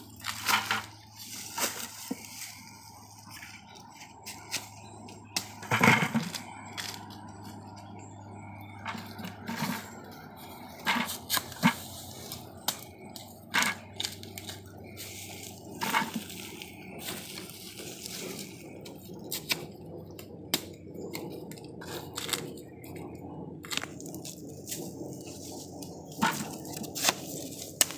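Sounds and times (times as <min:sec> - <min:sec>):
husks cracking and crunching: 0:00.0 - 0:27.9.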